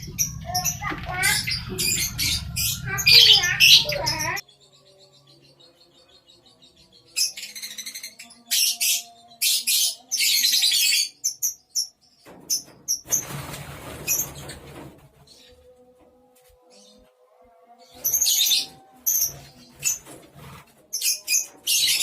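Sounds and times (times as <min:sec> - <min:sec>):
lovebirds screeching and chirping: 0:00.0 - 0:15.6, 0:17.8 - 0:22.0.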